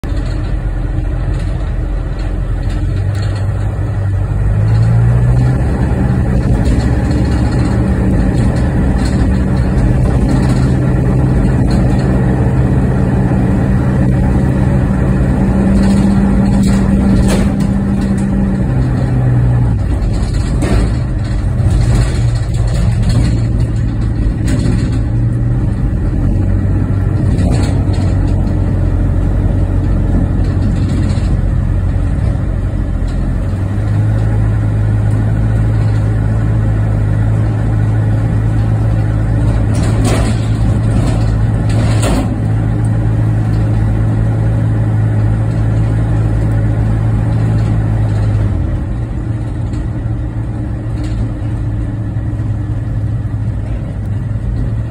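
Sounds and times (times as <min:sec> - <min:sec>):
car engine hum: 0:00.0 - 0:54.9
road noise: 0:00.0 - 0:54.9.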